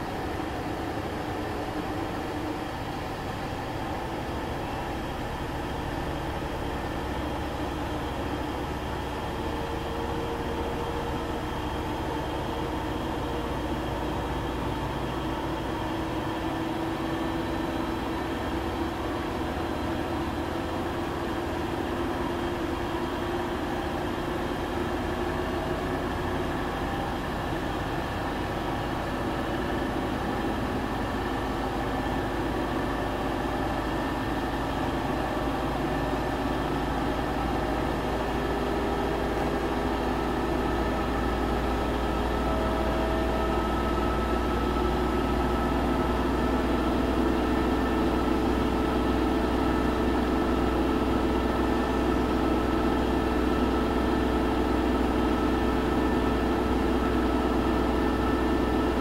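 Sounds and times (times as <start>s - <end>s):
washing machine running: 0.0s - 59.0s.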